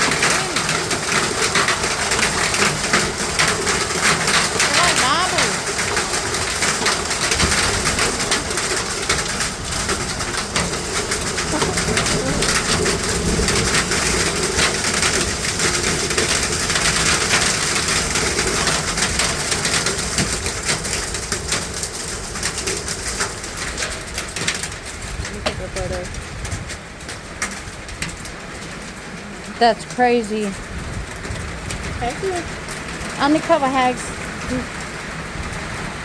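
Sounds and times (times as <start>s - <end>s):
hail clattering: 0.0s - 36.0s.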